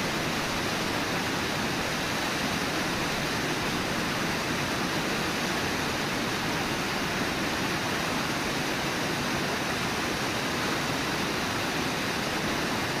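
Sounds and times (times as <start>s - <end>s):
water rushing over falls: 0.0s - 13.0s.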